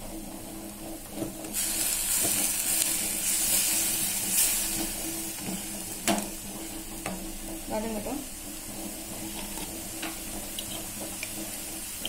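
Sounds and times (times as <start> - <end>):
onion paste sizzling in oil: 0.0 - 12.0.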